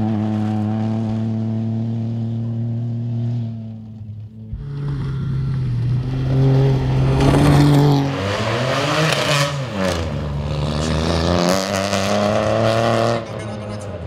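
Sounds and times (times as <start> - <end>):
rally car engine driving past: 0.0 - 14.0.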